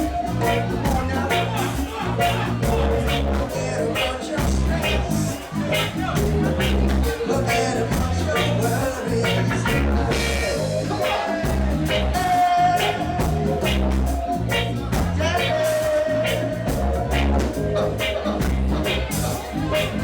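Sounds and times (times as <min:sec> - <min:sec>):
reggae band playing: 0:00.0 - 0:20.0.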